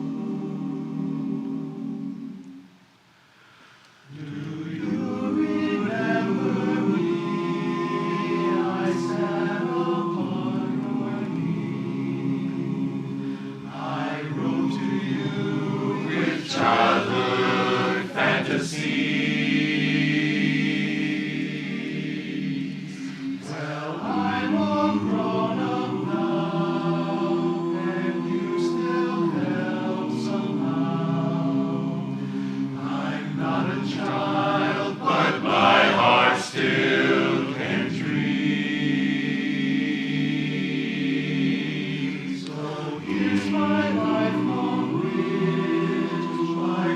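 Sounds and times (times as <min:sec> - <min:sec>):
chorus singing a cappella: 0:00.0 - 0:02.8, 0:04.0 - 0:46.9.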